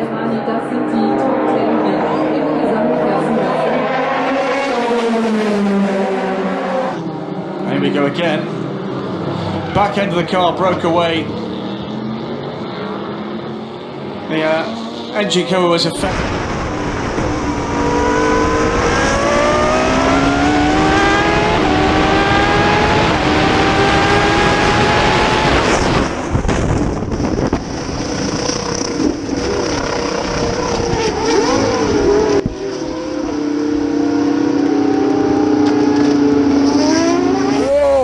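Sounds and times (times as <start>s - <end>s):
race car engines at full throttle: 0.0s - 38.0s.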